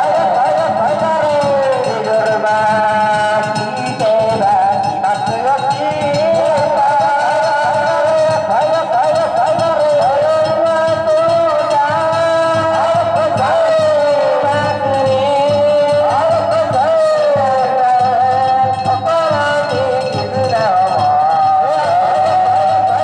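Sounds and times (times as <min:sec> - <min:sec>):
drum beats: 0:00.0 - 0:23.0
person singing wavering song: 0:00.0 - 0:23.0.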